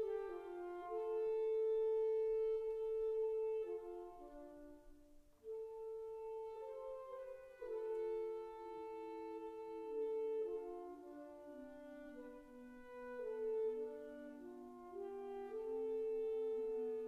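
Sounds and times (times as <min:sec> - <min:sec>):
slow classical wind chords: 0:00.0 - 0:17.0.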